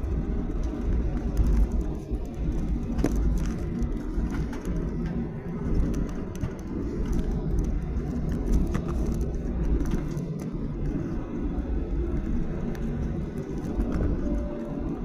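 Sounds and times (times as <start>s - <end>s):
airliner cabin low rumble: 0.0s - 15.0s
light rattles and clicks: 0.0s - 15.0s.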